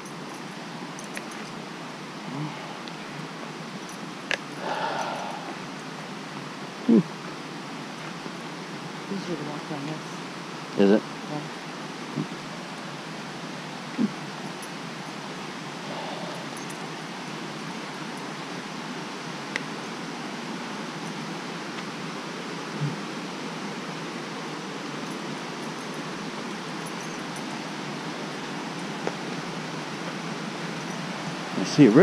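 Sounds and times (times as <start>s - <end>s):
river and waterfall rushing: 0.0s - 9.3s, 10.1s - 32.0s.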